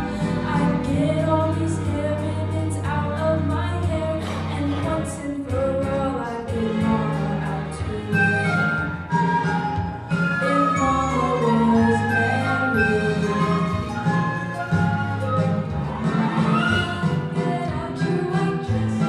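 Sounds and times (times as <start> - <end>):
amplified live singing: 0.0 - 9.4, 10.2 - 14.7, 15.3 - 19.0
musical accompaniment: 0.0 - 19.0.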